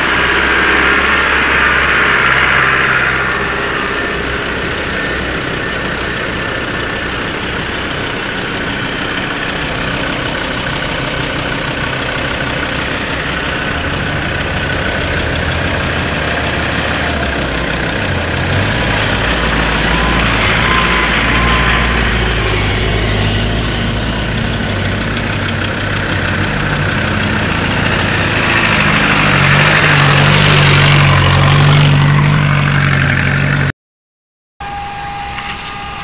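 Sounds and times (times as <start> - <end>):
off-road vehicles driving past: 0.0 - 33.7.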